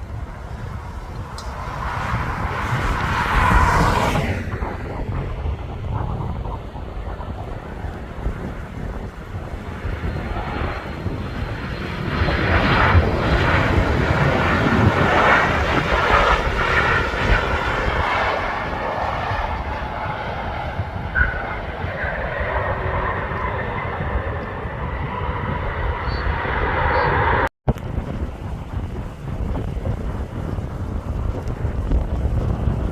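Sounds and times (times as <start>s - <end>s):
jet engines of passing plane: 0.0s - 32.9s
wind buffeting microphone: 0.0s - 32.9s.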